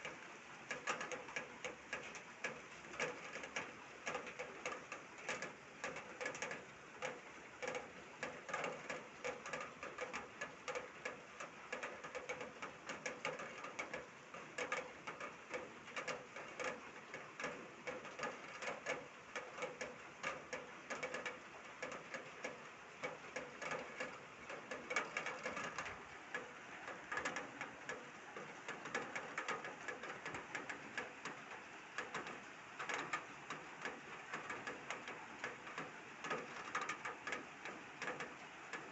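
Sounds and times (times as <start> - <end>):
heavy rain on a hard surface: 0.0 - 38.9.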